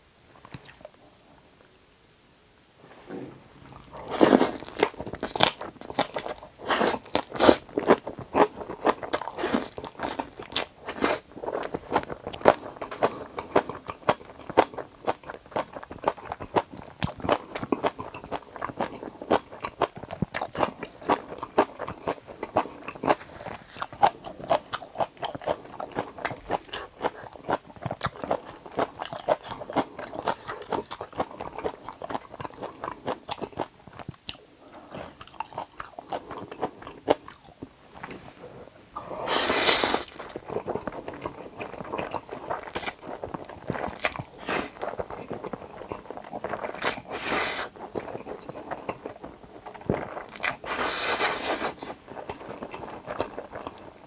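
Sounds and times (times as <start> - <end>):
wet chewing and crunchy bites: 3.6 - 38.2, 39.0 - 54.0.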